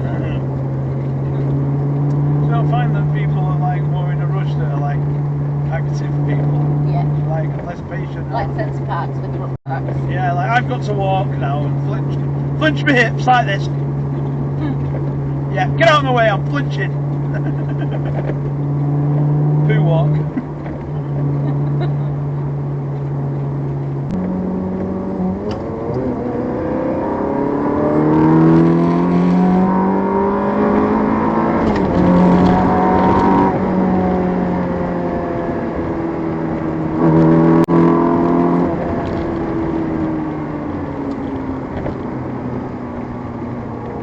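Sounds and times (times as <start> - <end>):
sports car engine accelerating: 0.0 - 44.0.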